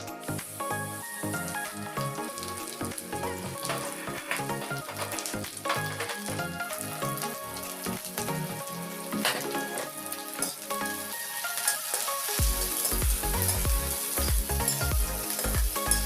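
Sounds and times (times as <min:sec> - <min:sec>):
background music: 0:00.0 - 0:16.0
food sizzling in hot oil: 0:00.2 - 0:16.0.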